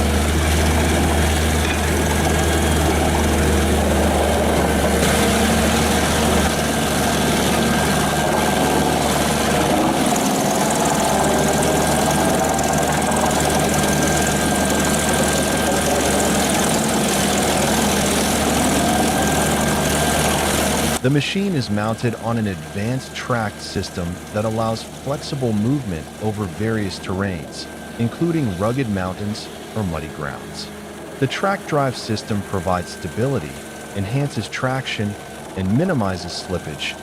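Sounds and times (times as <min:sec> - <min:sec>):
heavy diesel engine running: 0:00.0 - 0:37.0
thin steady whine: 0:00.0 - 0:37.0.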